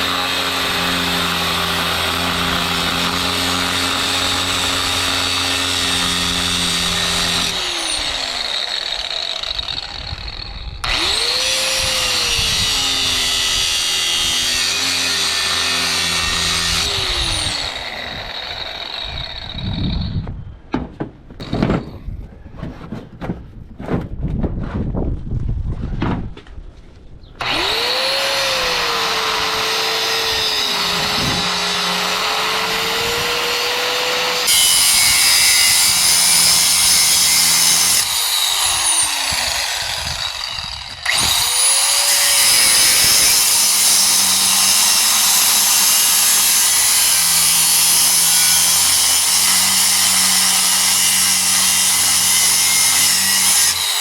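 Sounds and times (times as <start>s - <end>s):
power cutting tool cutting steel: 0.0s - 20.0s, 27.4s - 54.0s.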